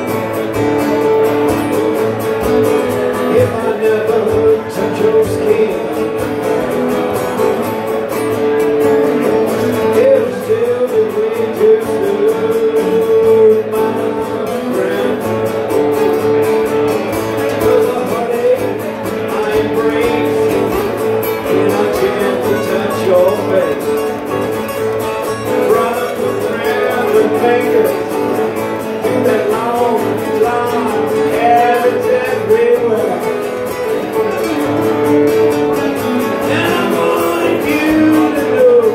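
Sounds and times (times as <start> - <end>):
acoustic guitar country tune: 0.0 - 38.9.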